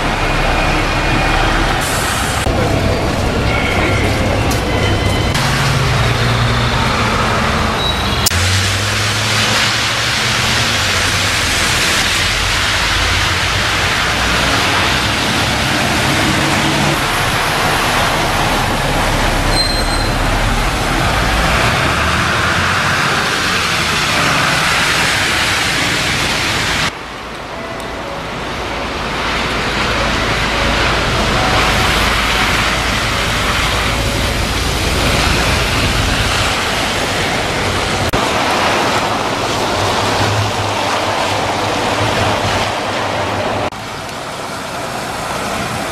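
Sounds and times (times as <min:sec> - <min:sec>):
diesel bus engine: 0:00.0 - 0:45.9
traffic hiss: 0:00.0 - 0:45.9.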